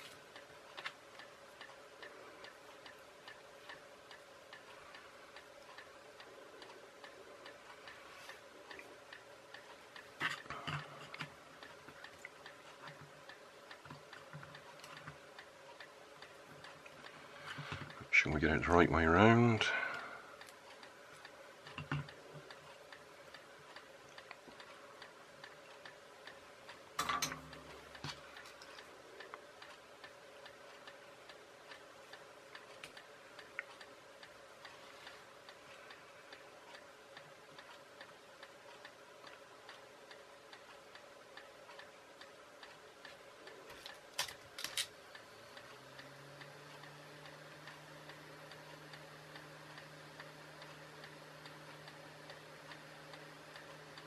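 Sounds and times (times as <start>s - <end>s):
faint low hum: 0.0s - 54.0s
steady regular ticking: 0.0s - 54.0s.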